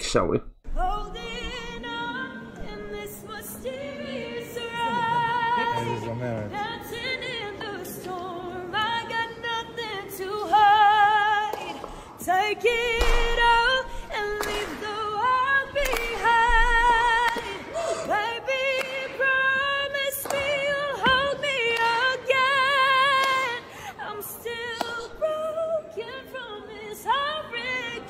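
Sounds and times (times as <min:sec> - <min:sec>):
woman singing a cappella: 0:00.7 - 0:28.0.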